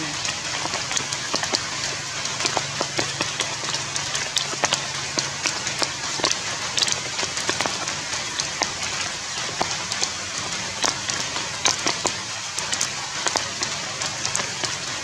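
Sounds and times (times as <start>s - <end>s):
drops pattering and dripping: 0.0s - 15.0s
low steady hum: 0.0s - 15.0s
rain falling: 0.0s - 15.0s.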